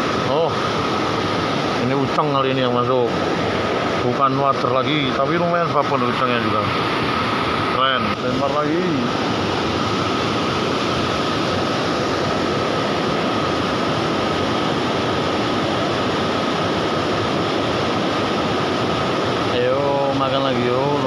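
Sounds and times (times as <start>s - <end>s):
river water rushing over weir: 0.0s - 21.0s.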